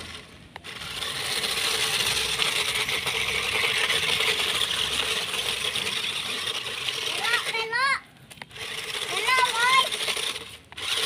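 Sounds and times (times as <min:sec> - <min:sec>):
toy truck motors whirring: 0:00.0 - 0:11.0
tyres rattling on gravel: 0:00.0 - 0:11.0.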